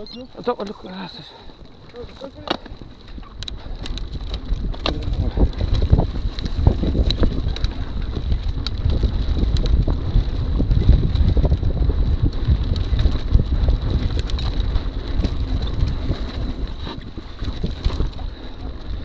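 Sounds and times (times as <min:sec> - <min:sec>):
bike rolling on rough trail: 0:00.0 - 0:19.0
wind buffeting microphone: 0:00.0 - 0:19.0
bike clicks and knocks: 0:01.8 - 0:10.1, 0:10.8 - 0:19.0.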